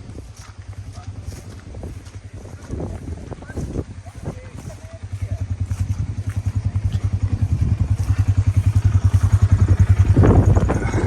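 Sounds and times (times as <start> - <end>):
engine running with rapid pulse: 0.0 - 11.0.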